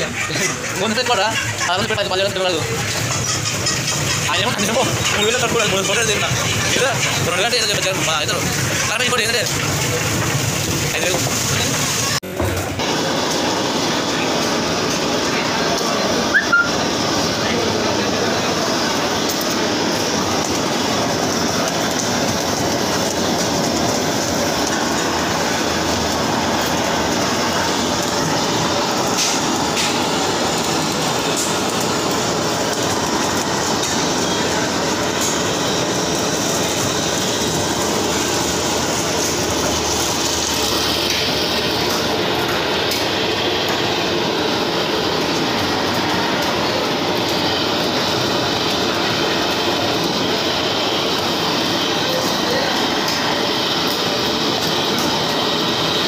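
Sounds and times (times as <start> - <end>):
blowtorch flame hissing: 2.5 - 56.0.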